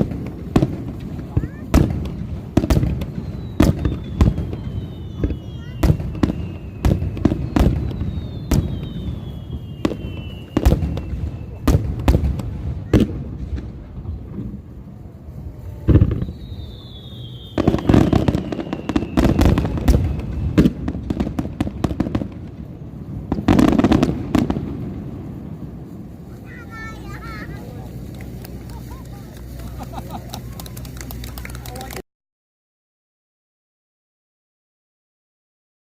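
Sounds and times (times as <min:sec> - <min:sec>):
fireworks booming: 0:00.0 - 0:31.4
fireworks crackling: 0:00.0 - 0:32.0
fireworks whistling: 0:00.0 - 0:32.0.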